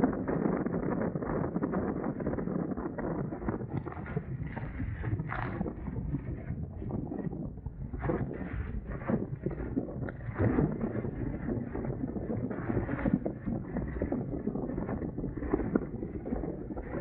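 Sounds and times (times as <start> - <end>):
wind buffeting microphone: 0.0 - 17.0
water slapping against hulls: 3.0 - 17.0.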